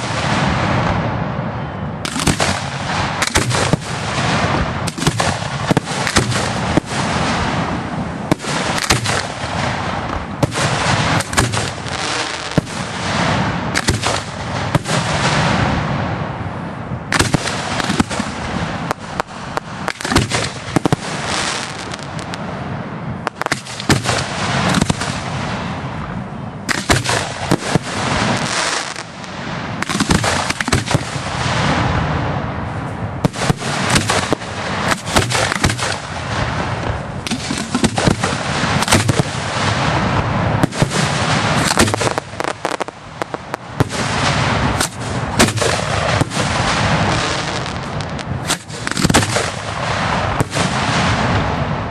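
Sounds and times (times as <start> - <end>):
firework shells bursting: 2.0 - 15.7, 17.1 - 22.5, 23.2 - 26.1, 26.7 - 31.4, 33.2 - 51.3.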